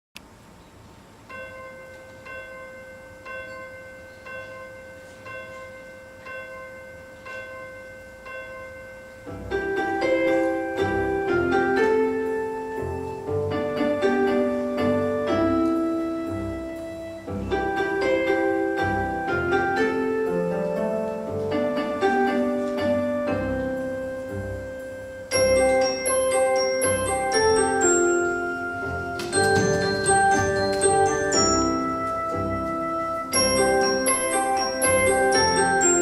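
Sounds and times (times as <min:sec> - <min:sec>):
piano playing: 0:01.2 - 0:36.0.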